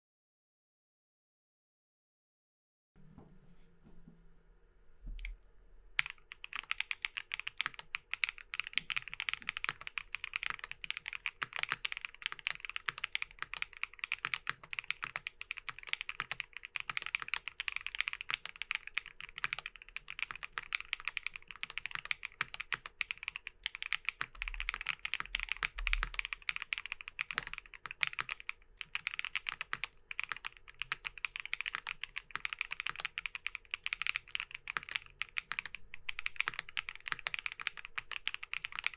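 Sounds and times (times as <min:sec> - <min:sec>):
typing on mechanical keyboard: 0:06.0 - 0:38.9.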